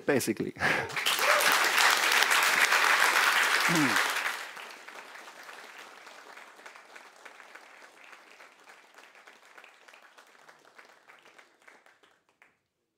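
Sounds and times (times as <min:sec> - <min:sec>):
audience applause: 0:00.7 - 0:12.6.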